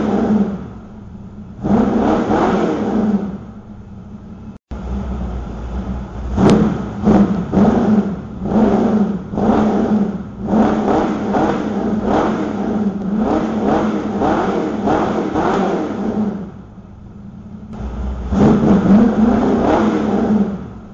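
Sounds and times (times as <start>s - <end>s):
car engine idling: 0.0s - 20.9s
car engine revving: 0.0s - 20.9s.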